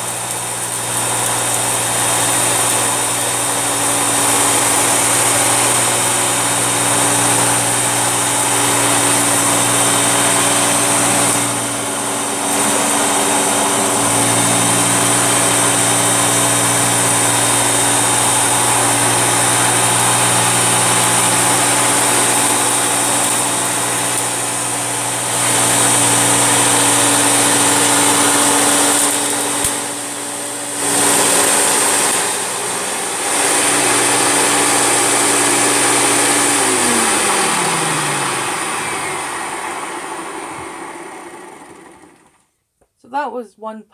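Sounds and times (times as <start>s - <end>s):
vacuum cleaner running: 0.0s - 42.5s.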